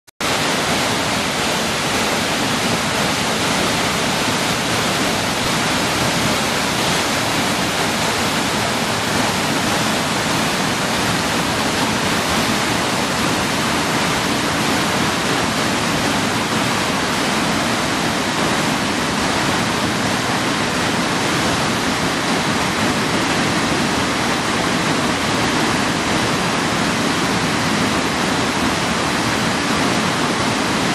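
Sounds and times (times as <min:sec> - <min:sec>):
waterfall rushing: 0:00.2 - 0:30.9.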